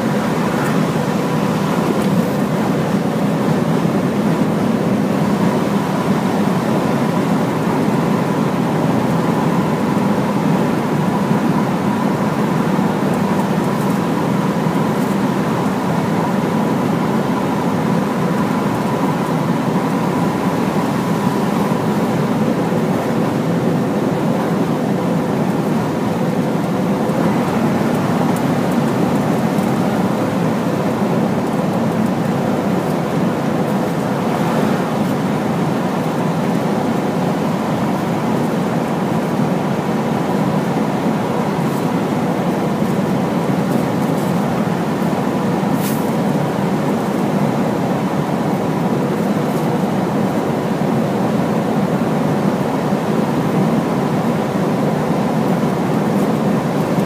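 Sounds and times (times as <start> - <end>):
truck engine and road noise: 0.0 - 57.0.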